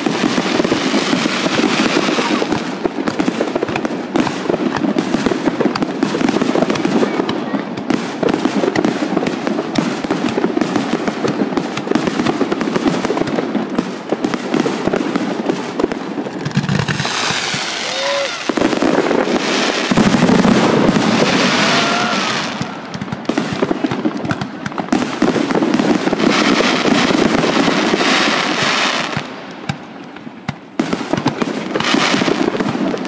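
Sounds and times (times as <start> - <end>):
fireworks bangs and crackle: 0.0 - 33.0.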